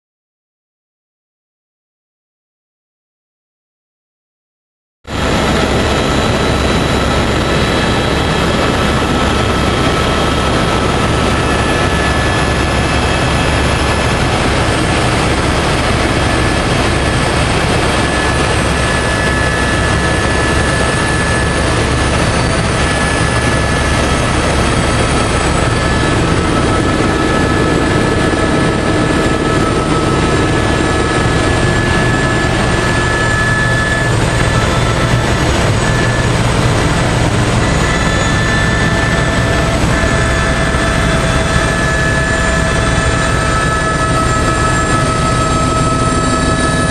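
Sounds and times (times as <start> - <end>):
helicopter engine whine: 5.1 - 46.9
rotor rumble: 5.1 - 46.9.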